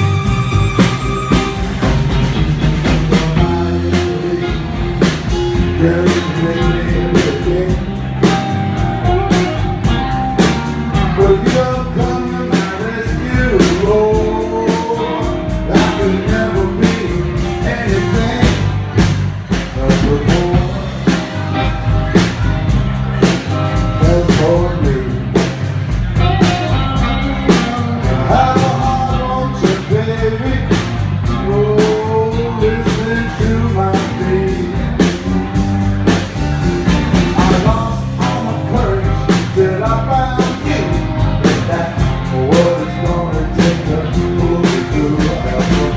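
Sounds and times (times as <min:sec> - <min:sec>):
bass guitar: 0:00.0 - 0:45.9
drum kit steady beat: 0:00.0 - 0:45.9
electric guitar lead lines: 0:00.0 - 0:45.9.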